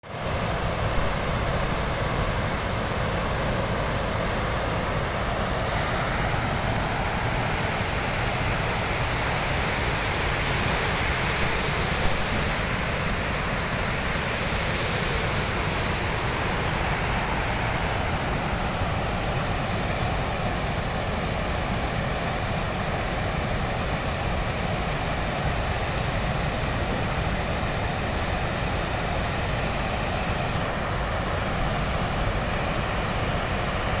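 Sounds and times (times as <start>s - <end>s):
water pouring over dam: 0.1s - 34.0s.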